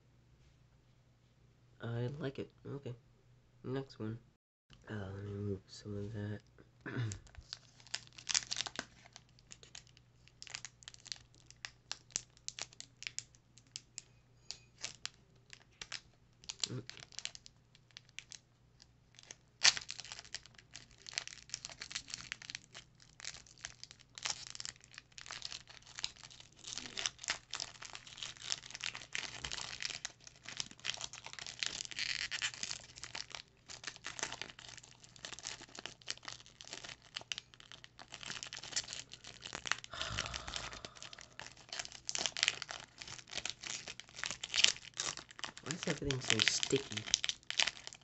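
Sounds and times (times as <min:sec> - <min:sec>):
foil wrapper tearing and crinkling: 0:07.1 - 0:18.4, 0:19.1 - 0:48.0.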